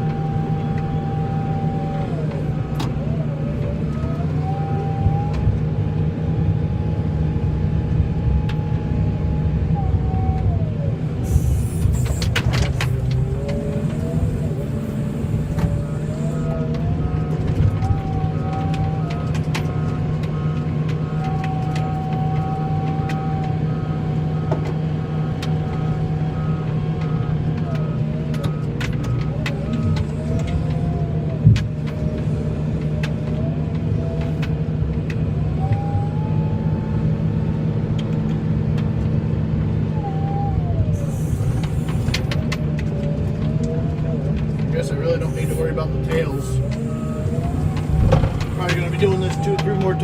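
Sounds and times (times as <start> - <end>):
vehicle engine under load: 0.0 - 50.0
whine: 0.0 - 50.0.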